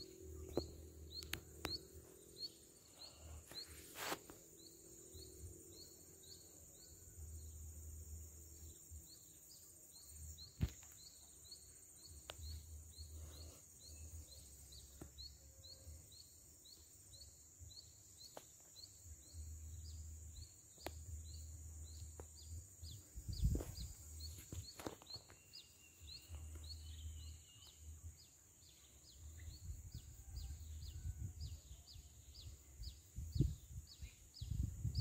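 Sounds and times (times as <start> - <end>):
insect chirping: 0.0 - 35.0
insects buzzing: 0.0 - 35.0.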